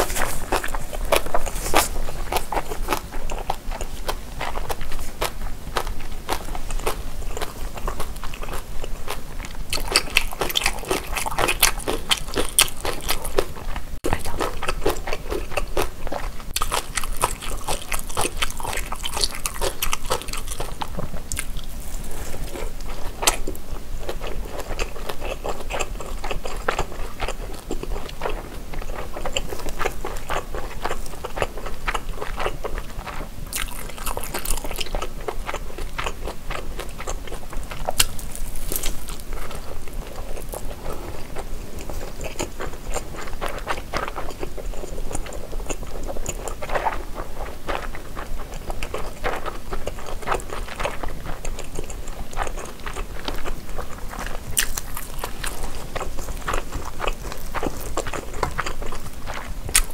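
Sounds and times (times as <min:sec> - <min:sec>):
biting and chewing meat: 0:00.0 - 0:59.9.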